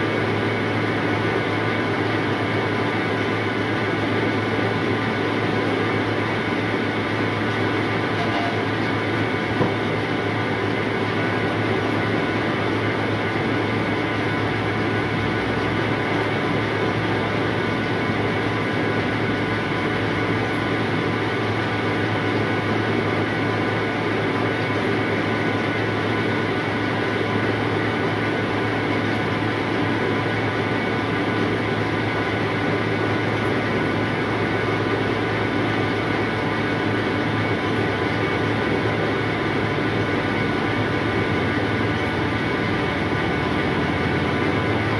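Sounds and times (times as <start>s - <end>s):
machine droning: 0.0s - 44.9s.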